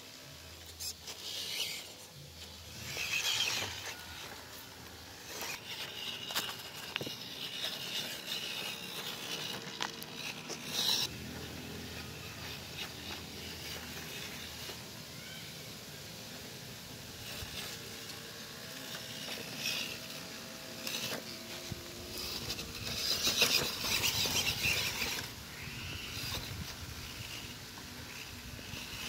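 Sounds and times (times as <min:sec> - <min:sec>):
small electric motor whirring: 0:00.0 - 0:29.0
tyres scraping on stones: 0:00.2 - 0:29.0.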